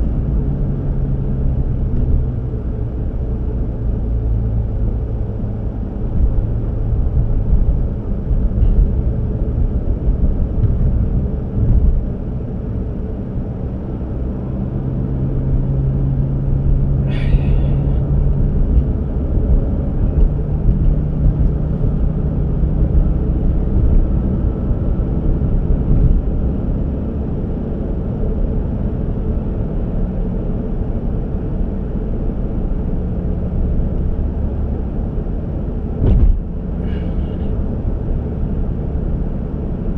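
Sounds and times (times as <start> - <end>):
road noise: 0.0 - 39.9
vehicle engine hum: 0.0 - 39.9.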